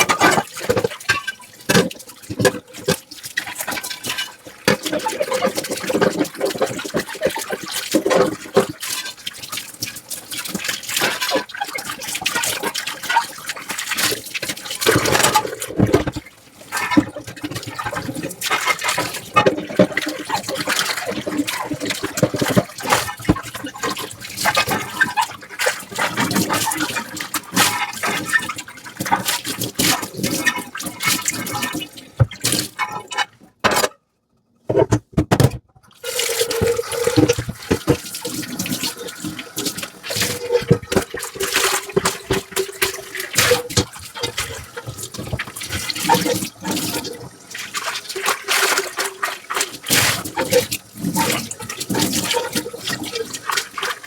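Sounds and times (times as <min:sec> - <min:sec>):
water running and splashing: 0:00.0 - 0:32.9, 0:36.0 - 0:54.0.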